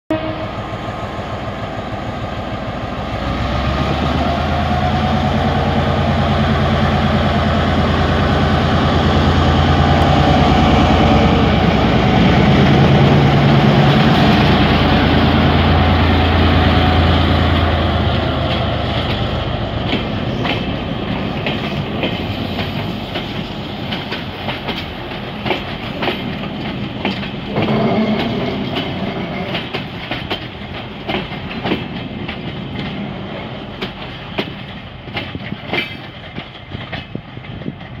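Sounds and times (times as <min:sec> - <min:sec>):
locomotive engine drone: 0:00.1 - 0:35.1
train wheels clicking over rail joints: 0:01.9 - 0:38.0.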